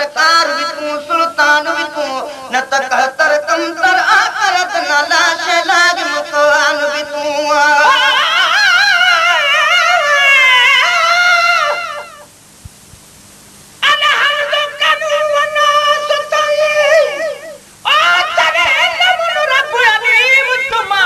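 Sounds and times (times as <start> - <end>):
person singing with heavy vibrato: 0.0 - 12.3, 13.8 - 21.0.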